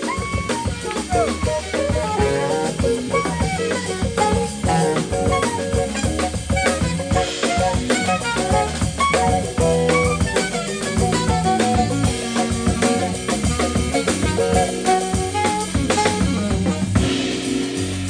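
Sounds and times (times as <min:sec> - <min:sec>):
alto saxophone lead: 0:00.0 - 0:18.0
drum kit: 0:00.0 - 0:18.0
jazz band playing: 0:00.0 - 0:18.0.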